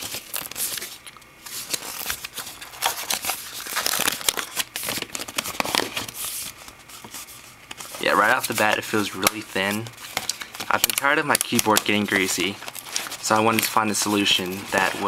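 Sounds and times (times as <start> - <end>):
packaging tearing clicks: 0.0 - 6.2, 8.3 - 15.0
packaging rustling and crinkling: 0.0 - 15.0.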